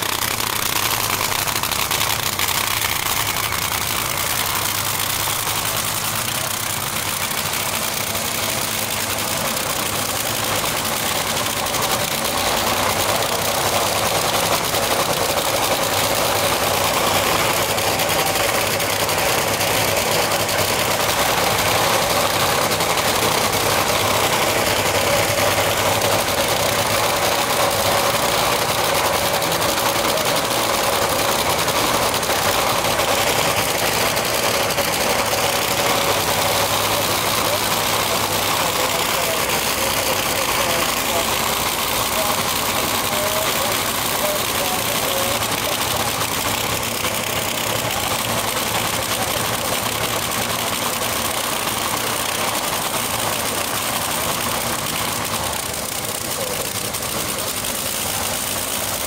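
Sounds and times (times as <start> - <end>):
dragster engine idling: 0.0 - 59.0.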